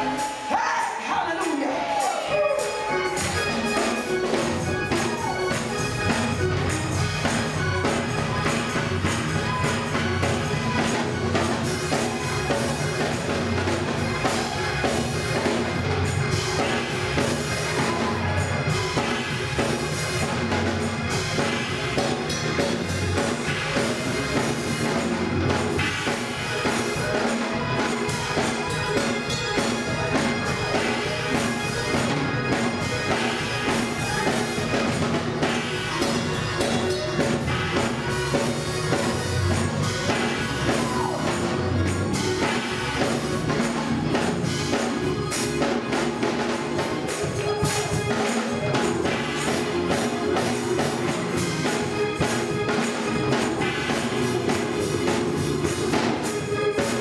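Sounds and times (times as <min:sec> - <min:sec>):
drum kit beat: 0:00.0 - 0:57.0
keyboard playing gospel music: 0:00.0 - 0:57.0.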